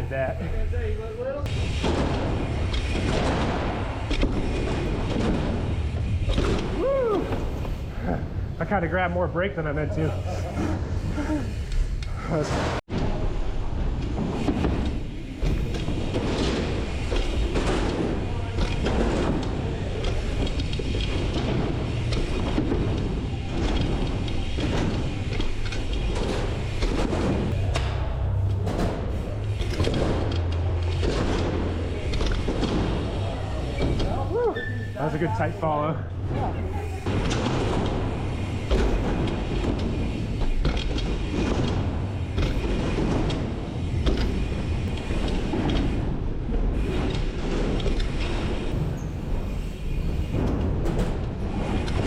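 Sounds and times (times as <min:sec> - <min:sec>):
bicycle tyres rumbling: 0:00.0 - 0:52.0
bike knocks and rattles: 0:01.5 - 0:07.8, 0:12.6 - 0:52.0.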